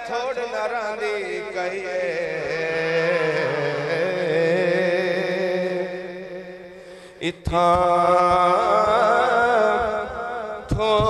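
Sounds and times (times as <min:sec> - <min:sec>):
man chanting into a microphone: 0:00.0 - 0:11.0.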